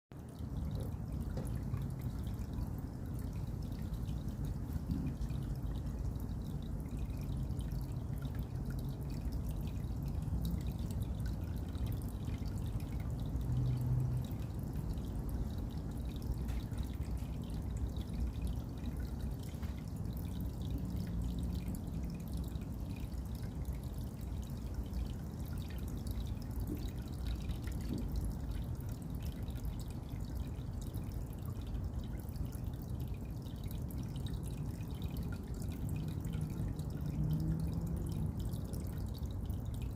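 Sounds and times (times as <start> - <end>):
water dripping and trickling: 0.1 - 39.9.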